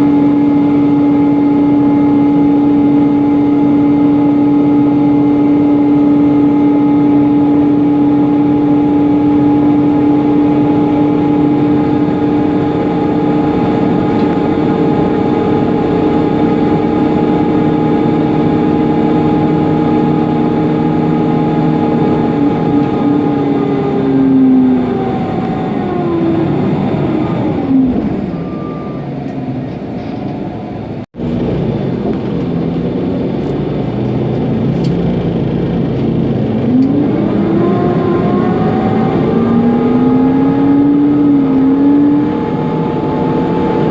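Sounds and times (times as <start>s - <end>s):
bus engine running: 0.0s - 43.9s
engine cooling fan whine: 0.0s - 43.9s.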